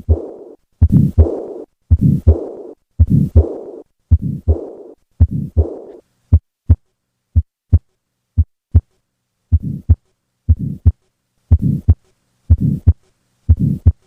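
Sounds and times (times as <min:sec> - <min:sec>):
noisy heart murmur: 0:00.0 - 0:06.8, 0:09.5 - 0:14.0
heartbeat: 0:00.0 - 0:08.9, 0:09.5 - 0:14.0.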